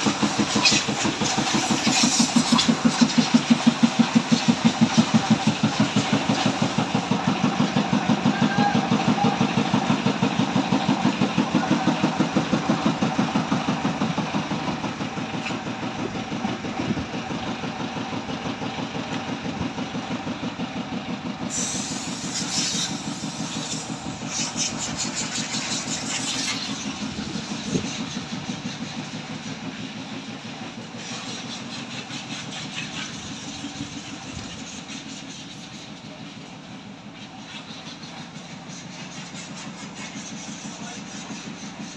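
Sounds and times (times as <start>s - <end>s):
diesel engine idling: 0.0s - 41.9s
hiss: 0.0s - 41.9s.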